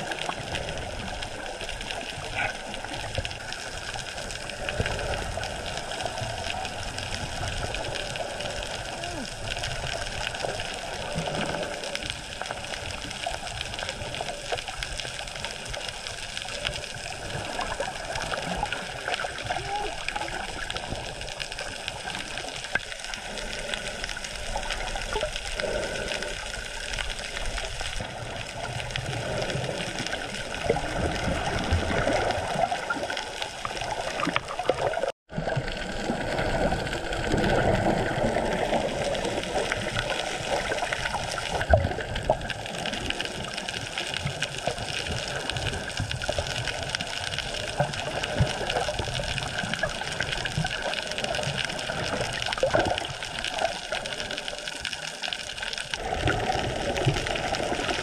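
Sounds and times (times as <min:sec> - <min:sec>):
muffled underwater water rushing: 0:00.0 - 0:58.0.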